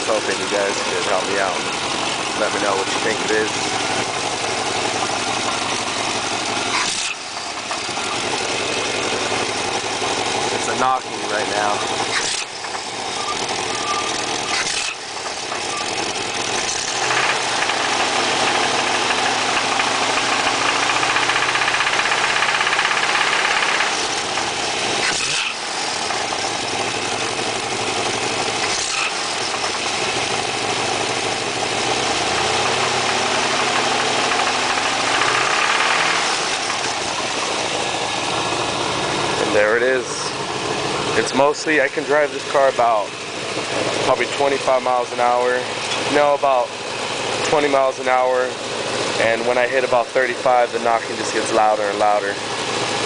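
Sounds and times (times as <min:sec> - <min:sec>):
engine running with a knock: 0:00.0 - 0:53.0.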